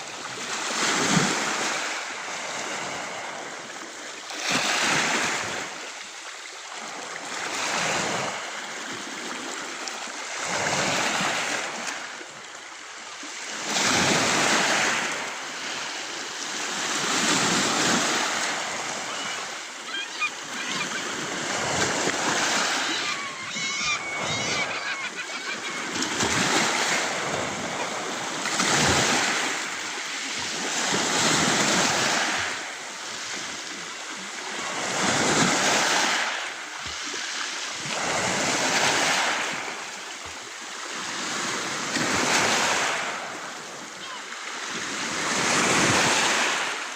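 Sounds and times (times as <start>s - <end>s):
sea waves washing on shore: 0.0s - 46.9s.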